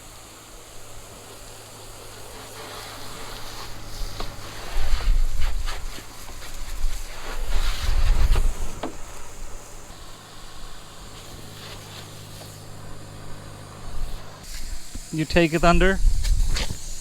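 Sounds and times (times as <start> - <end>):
pressure washer spraying water: 0.0 - 17.0
pump humming: 0.0 - 17.0.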